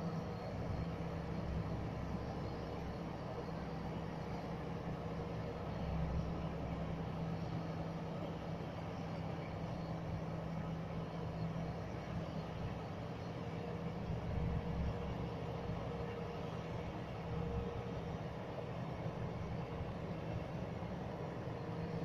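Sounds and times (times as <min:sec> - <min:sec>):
passenger train running on track: 0:00.0 - 0:22.0.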